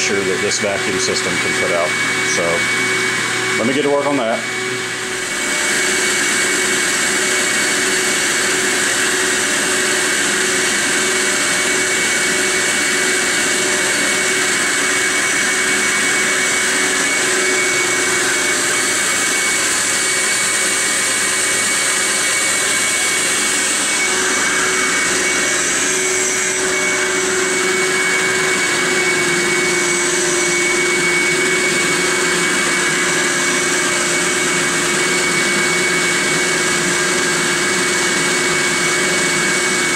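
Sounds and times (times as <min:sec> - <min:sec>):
vacuum pump running: 0:00.0 - 0:39.9.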